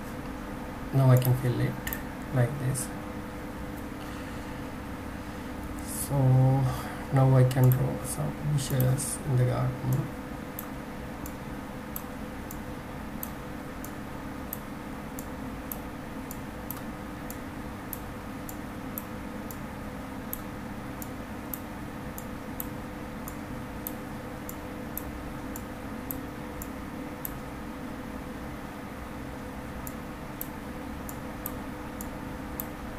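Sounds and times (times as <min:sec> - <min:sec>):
electrical hum: 0:00.0 - 0:32.9.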